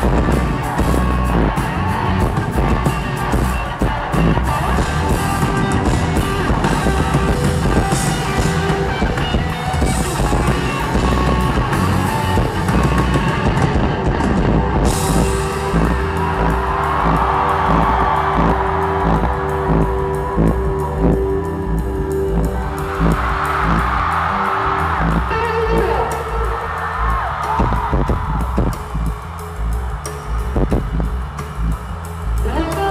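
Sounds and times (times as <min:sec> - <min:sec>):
live rock band playing: 0:00.0 - 0:32.9.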